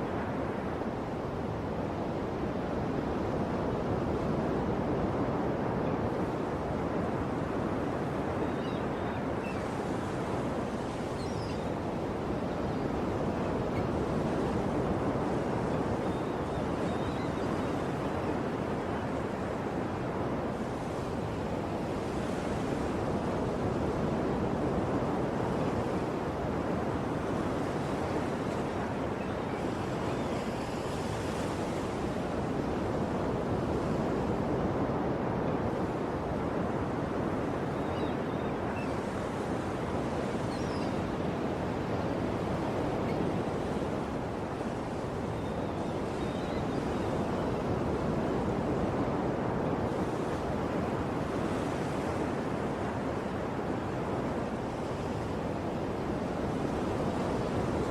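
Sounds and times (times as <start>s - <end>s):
sea waves washing on shore: 0.0s - 57.9s.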